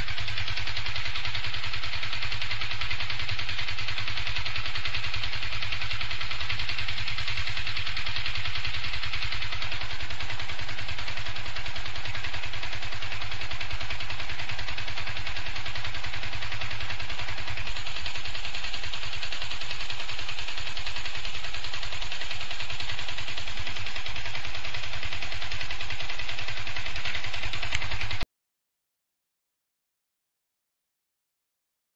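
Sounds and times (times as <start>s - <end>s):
motorcycle engine with metallic clatter: 0.0s - 28.2s.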